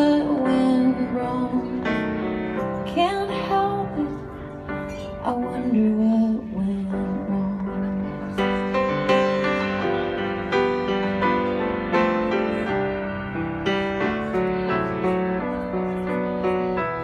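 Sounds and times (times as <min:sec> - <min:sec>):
grand piano chords and melody: 0:00.0 - 0:17.0.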